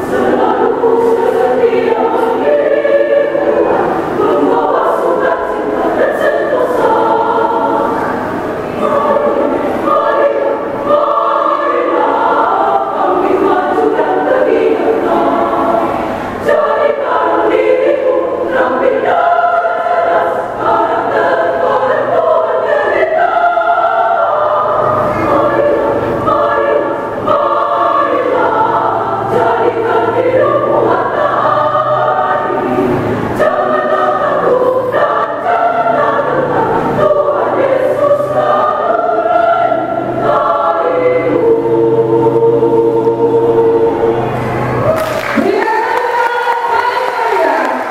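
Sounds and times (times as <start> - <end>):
women's choir singing: 0.0 - 47.9.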